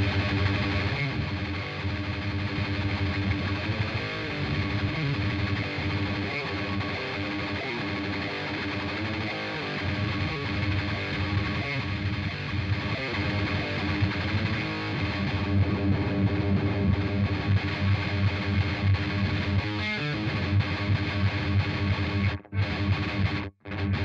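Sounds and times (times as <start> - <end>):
distorted electric guitar riffing: 0.0 - 24.0.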